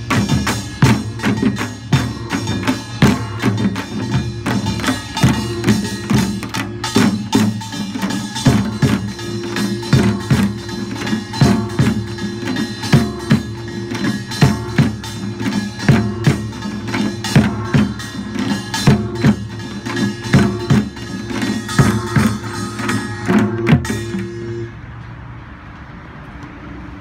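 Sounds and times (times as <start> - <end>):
quick uneven drum strokes: 0.0 - 24.5
metal gongs ringing: 0.0 - 24.8.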